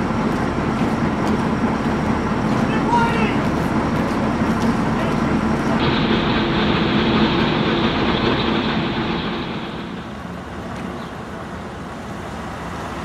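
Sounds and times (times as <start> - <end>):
tracked vehicle engines clattering: 0.0 - 13.0.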